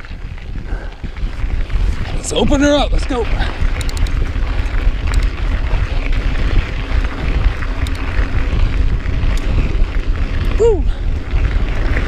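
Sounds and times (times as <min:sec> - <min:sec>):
bike tyres on dirt trail: 0:00.0 - 0:12.0
wind buffeting microphone: 0:00.0 - 0:12.0.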